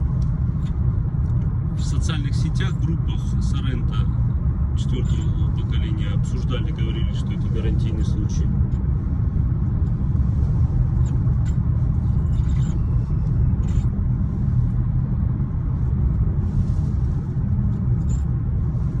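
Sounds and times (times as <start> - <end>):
low road rumble inside car: 0.0 - 19.0.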